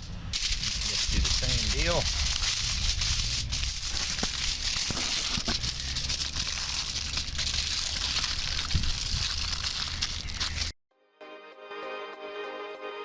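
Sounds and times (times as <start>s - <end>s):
aluminium foil crinkling: 0.0s - 10.8s.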